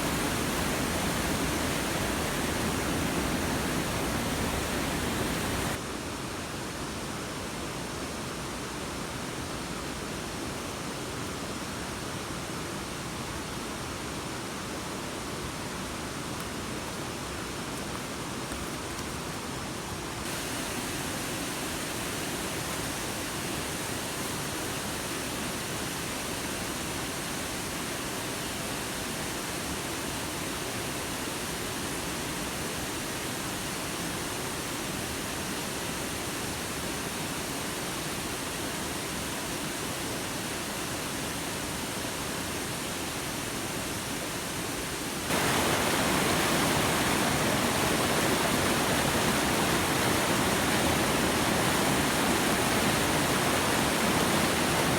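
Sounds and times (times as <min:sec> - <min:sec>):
rushing water: 0:00.0 - 0:05.8, 0:13.8 - 0:54.9.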